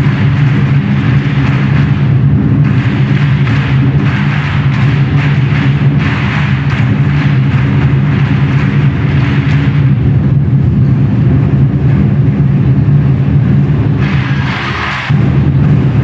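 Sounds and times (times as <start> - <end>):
brighter sharper drum layer: 0.0 - 16.0
large drums beaten in a fast roll: 0.0 - 16.0.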